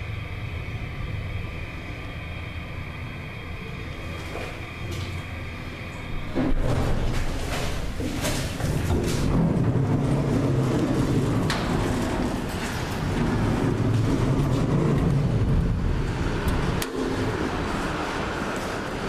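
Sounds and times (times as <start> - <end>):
freight elevator humming: 0.0 - 19.0.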